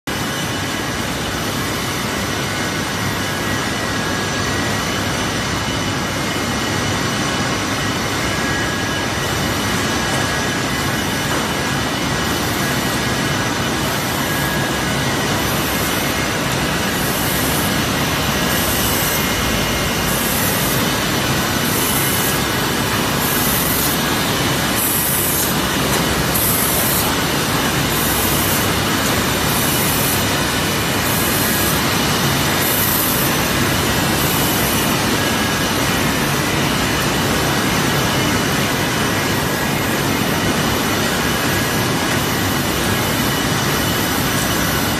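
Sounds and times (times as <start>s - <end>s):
machine hum: 0.1s - 44.9s.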